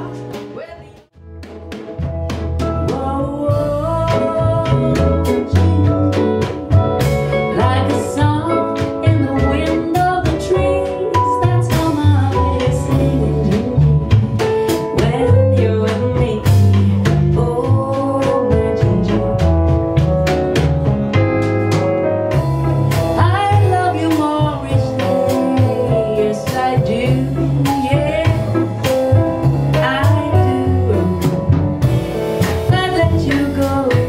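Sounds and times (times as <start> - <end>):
drum kit beat: 0.0 - 34.0
swing jazz combo: 0.0 - 34.0
walking bass: 0.0 - 34.0.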